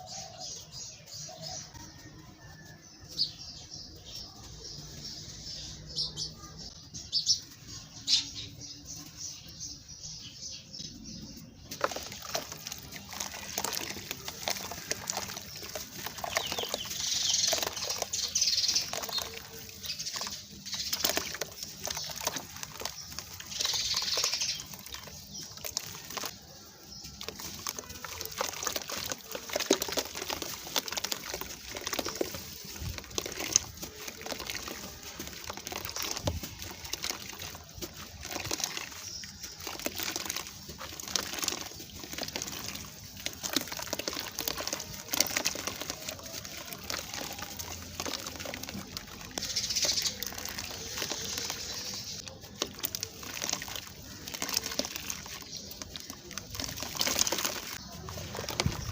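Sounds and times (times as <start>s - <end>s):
cement chunks crunching: 11.4s - 58.9s.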